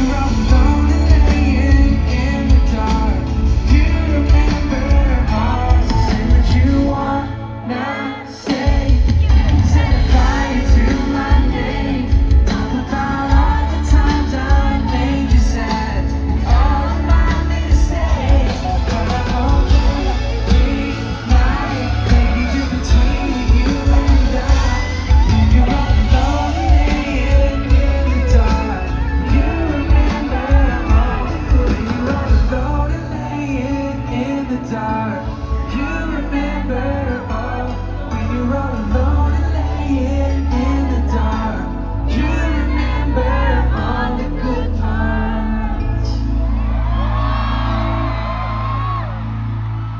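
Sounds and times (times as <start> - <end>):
person singing: 0.0 - 49.8
live pop band playing: 0.0 - 49.9.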